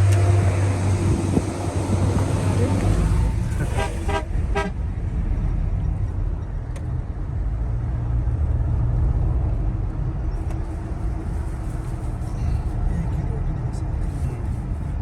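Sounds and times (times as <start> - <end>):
car driving on road: 0.0 - 15.0.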